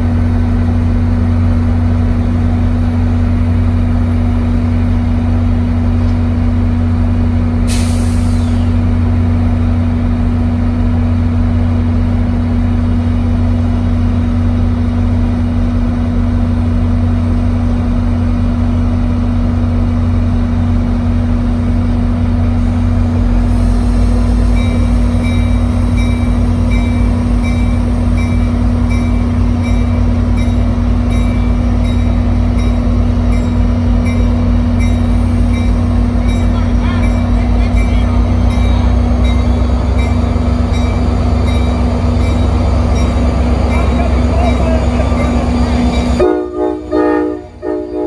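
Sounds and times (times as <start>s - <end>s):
diesel locomotive idling: 0.0s - 48.0s.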